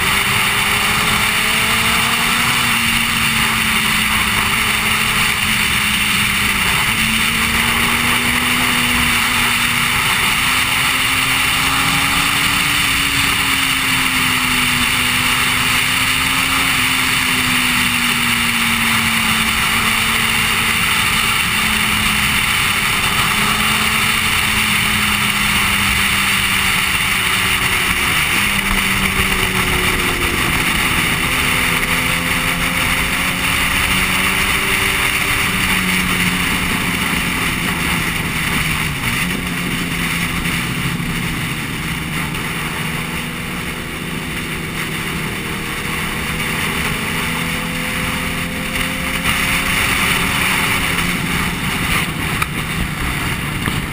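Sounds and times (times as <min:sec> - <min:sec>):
motorcycle engine running: 0:00.0 - 0:53.9
wind rush: 0:00.0 - 0:53.9.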